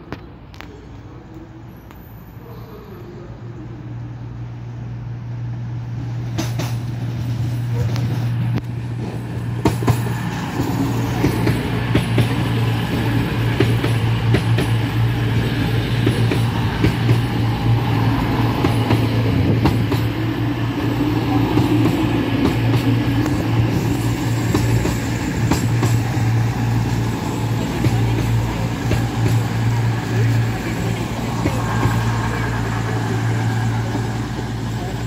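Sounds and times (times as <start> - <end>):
diesel engines droning: 0.2 - 35.0
train wheels clicking over rails: 6.2 - 35.0.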